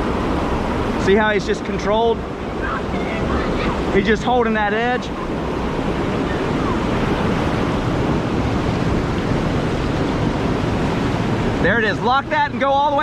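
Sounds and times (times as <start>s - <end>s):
wind on microphone: 0.0s - 11.6s
river whitewater rushing: 0.0s - 13.0s.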